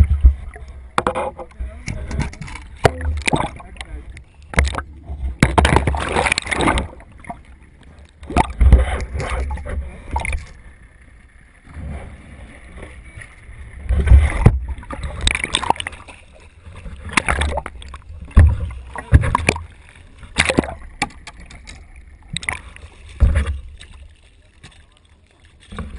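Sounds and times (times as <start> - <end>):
water splashing and gurgling: 0.0 - 25.9.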